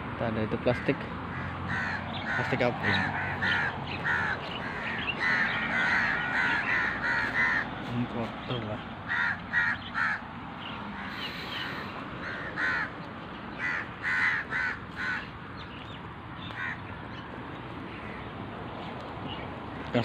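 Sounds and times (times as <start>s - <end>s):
bird calling: 0.7s - 20.0s.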